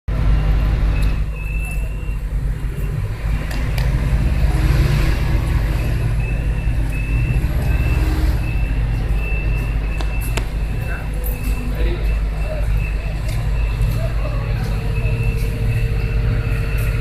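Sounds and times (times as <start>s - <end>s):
heavy machinery engine rumble: 0.1s - 17.0s
short high warning beeps: 0.4s - 3.1s, 5.4s - 17.0s.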